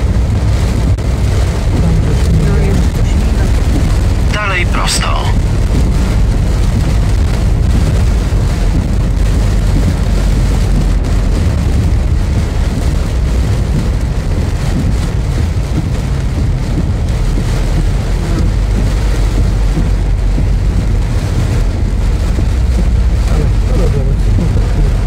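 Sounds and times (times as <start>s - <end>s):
rain drumming on car: 0.0s - 25.0s
road and engine rumble: 0.0s - 25.0s.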